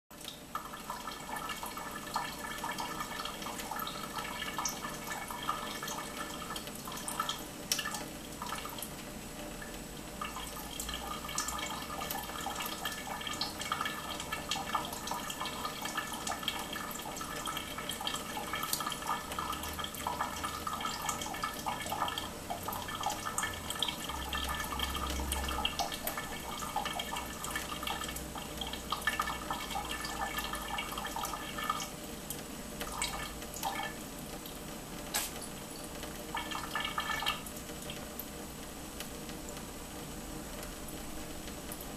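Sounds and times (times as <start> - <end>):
water drips splashing: 0.2 - 9.0, 9.6 - 38.3.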